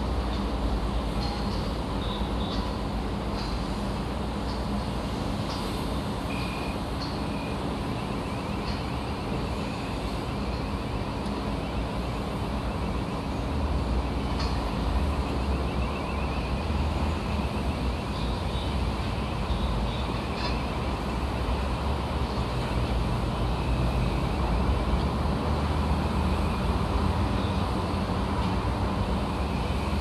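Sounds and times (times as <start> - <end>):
engines and traffic rumble: 0.0 - 30.0.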